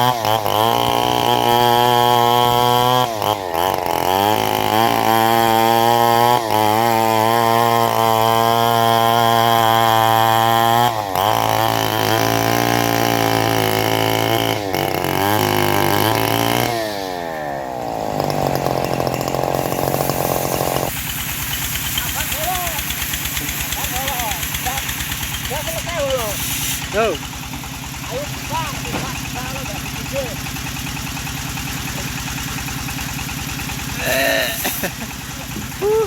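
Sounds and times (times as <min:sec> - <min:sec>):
bandsaw engine sawing a log: 0:00.0 - 0:36.0.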